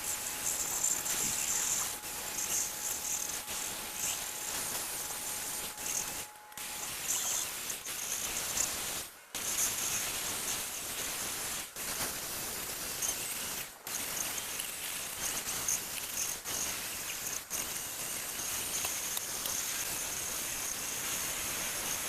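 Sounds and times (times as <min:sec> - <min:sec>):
hissing spray: 0:00.0 - 0:22.0.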